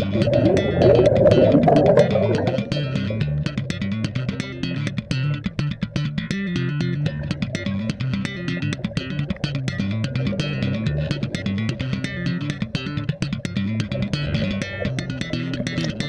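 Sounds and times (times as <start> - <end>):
bass and guitar music with beat: 0.0 - 16.0.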